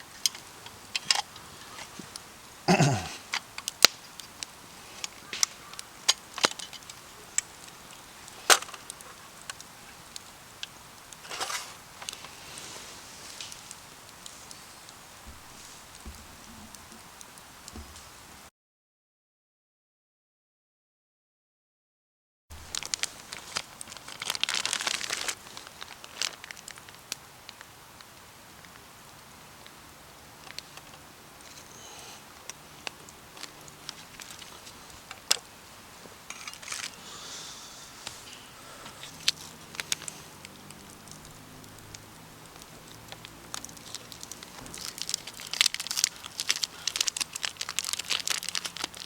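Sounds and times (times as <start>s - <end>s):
campfire crackling and popping: 0.0s - 18.5s, 22.5s - 49.0s.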